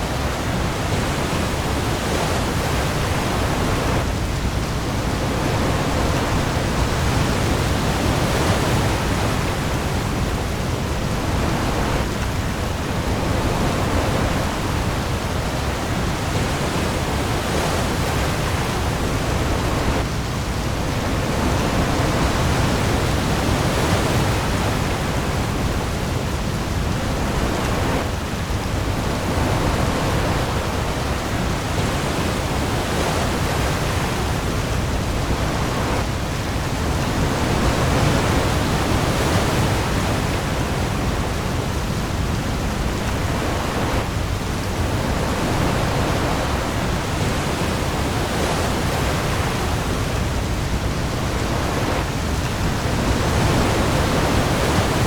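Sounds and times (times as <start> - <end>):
heavy rain on the sea: 0.0 - 55.0.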